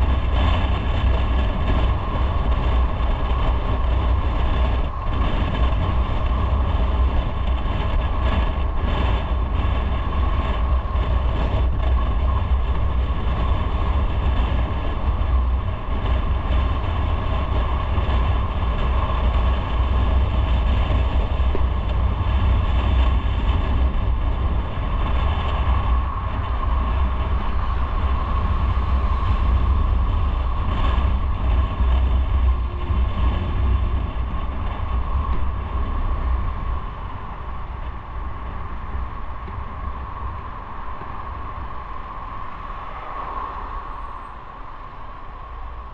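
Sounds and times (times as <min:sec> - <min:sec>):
motorcycle engine rumbling: 0:00.0 - 0:42.9
steady whine: 0:00.0 - 0:45.9.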